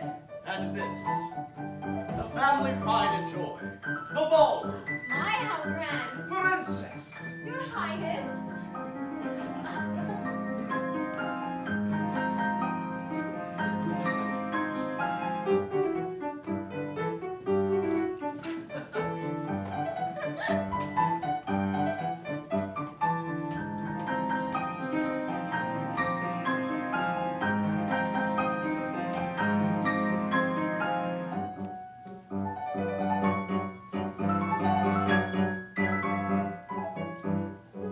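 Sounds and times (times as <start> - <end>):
piano melody: 0.0 - 37.9.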